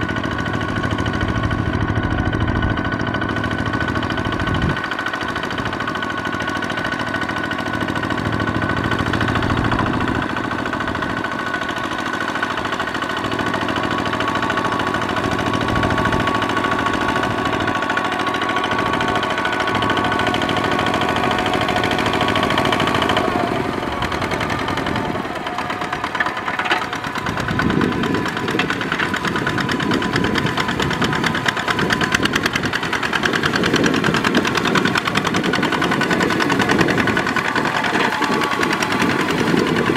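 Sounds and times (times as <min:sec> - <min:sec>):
diesel engine chugging under load: 0:00.0 - 0:39.9.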